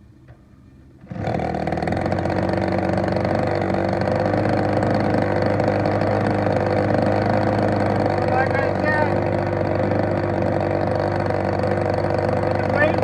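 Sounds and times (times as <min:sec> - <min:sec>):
model airplane engine running: 0:01.1 - 0:13.0.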